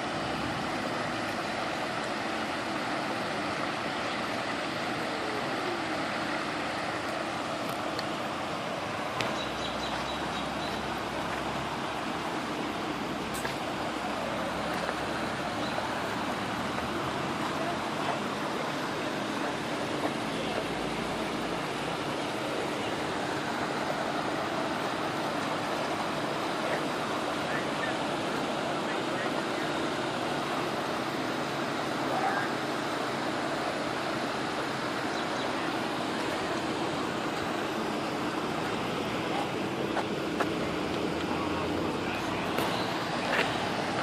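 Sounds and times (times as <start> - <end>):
water gushing and rushing: 0.0 - 44.0.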